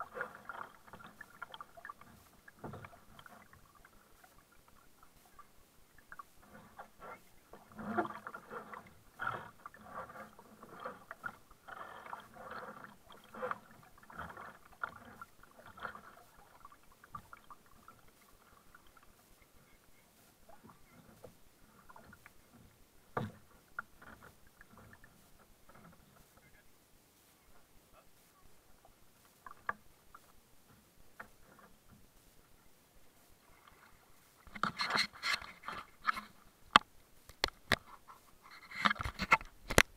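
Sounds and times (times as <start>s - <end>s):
kayak paddle splashing in water: 0.0s - 26.6s, 33.1s - 39.9s.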